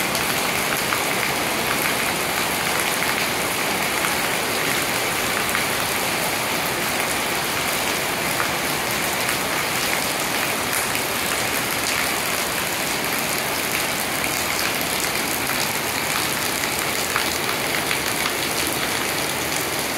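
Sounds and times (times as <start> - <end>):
heavy rain on roofs: 0.0 - 19.9
water streaming off eaves: 0.0 - 19.9.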